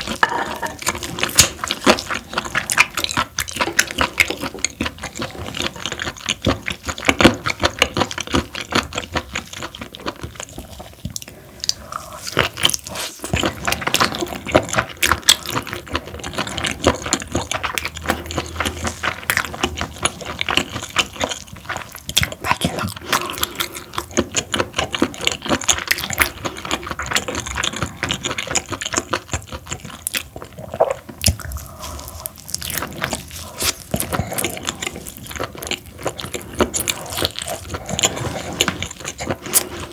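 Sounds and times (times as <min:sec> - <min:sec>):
wet chewing mouth sounds: 0:00.0 - 0:39.9.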